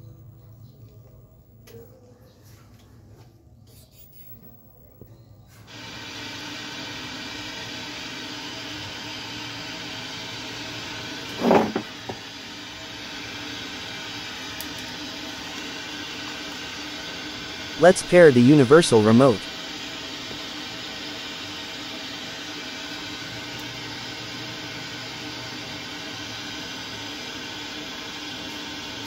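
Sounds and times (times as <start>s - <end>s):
tv static hiss: 5.7s - 29.0s.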